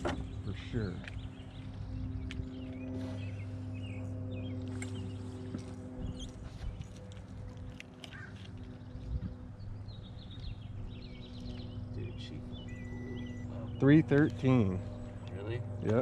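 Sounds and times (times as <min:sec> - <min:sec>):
songbirds chirping: 0:00.0 - 0:16.0
steady low hum: 0:00.0 - 0:16.0.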